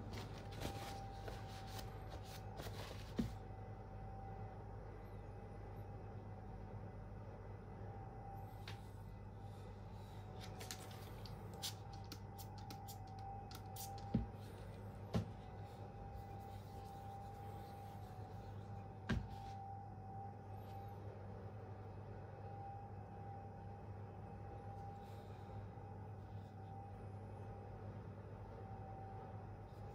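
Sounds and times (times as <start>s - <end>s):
faint high whine: 0.0s - 29.9s
steady hum: 0.0s - 29.9s.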